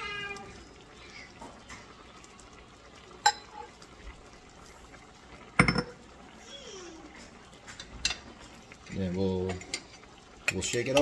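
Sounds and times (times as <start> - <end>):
low pan sizzle: 0.0 - 11.0.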